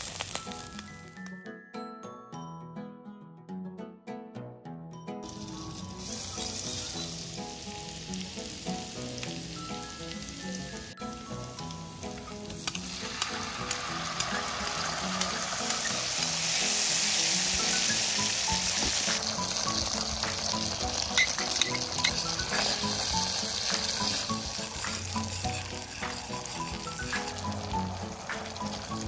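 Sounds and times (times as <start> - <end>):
food sizzling in butter: 0.0 - 1.2, 5.3 - 29.0
light background music: 0.0 - 29.0.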